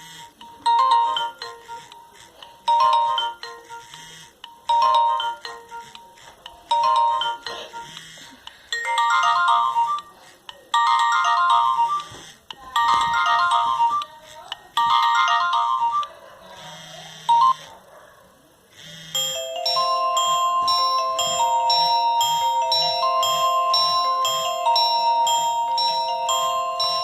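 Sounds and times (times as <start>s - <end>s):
phone ringtone beeps: 0.0s - 17.7s, 18.8s - 27.0s.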